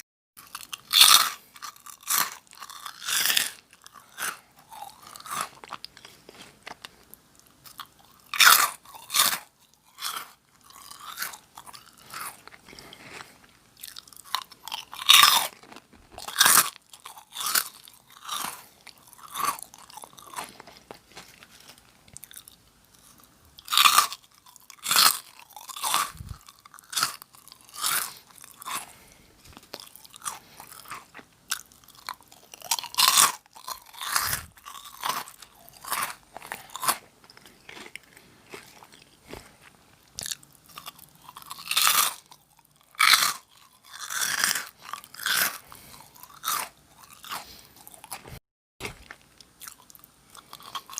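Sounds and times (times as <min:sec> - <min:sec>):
crunching snack crackers: 0:00.4 - 0:50.9.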